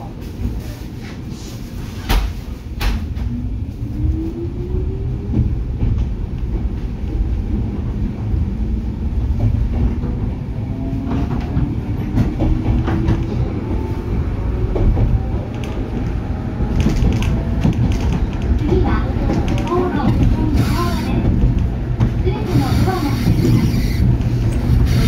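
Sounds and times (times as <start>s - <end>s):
train wheels and motors rumbling: 0.0s - 25.0s.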